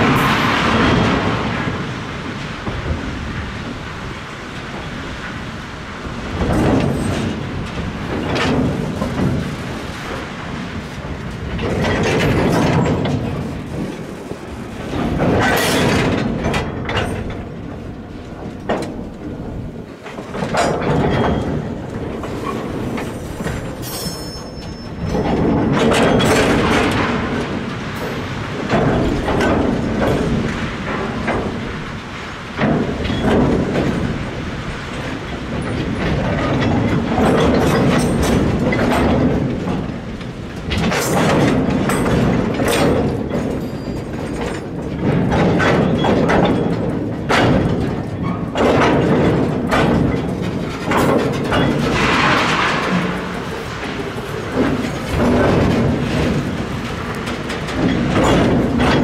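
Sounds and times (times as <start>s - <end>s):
wheels clattering over rail joints: 0.0s - 59.0s.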